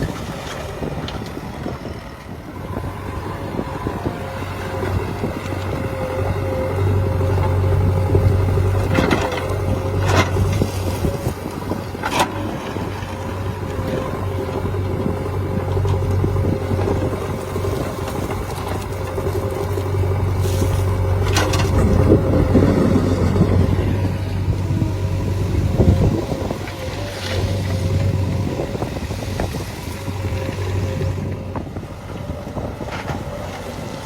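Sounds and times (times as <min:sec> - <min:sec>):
heavy machine diesel engine humming: 0:00.0 - 0:34.0.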